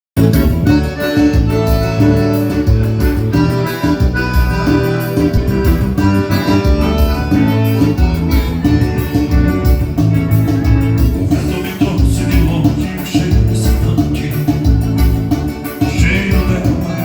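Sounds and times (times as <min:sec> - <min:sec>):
dance band playing: 0:00.2 - 0:17.0
reedy lead instrument: 0:00.2 - 0:17.0.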